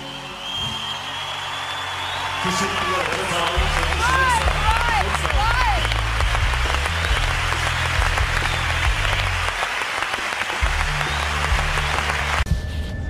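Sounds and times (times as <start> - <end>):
low music: 0.0 - 9.8, 10.5 - 12.5
audience applauding: 0.0 - 12.5.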